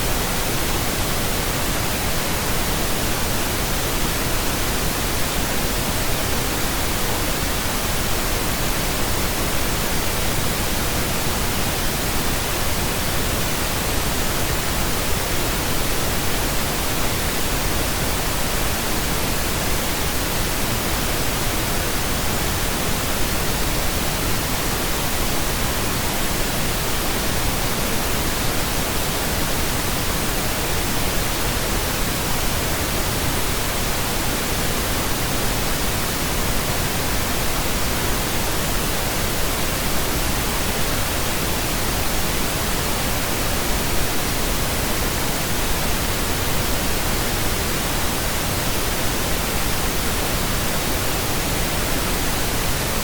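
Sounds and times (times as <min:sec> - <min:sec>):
pink noise hiss: 0:00.0 - 0:53.0.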